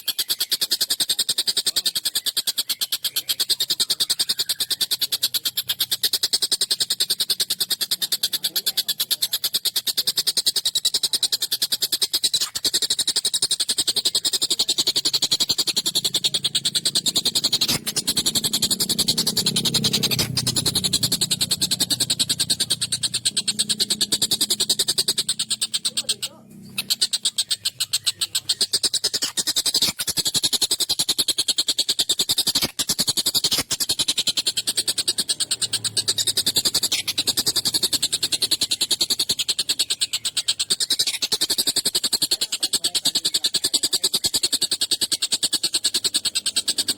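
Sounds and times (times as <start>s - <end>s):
kingfisher rattling chatter: 0.0s - 46.9s.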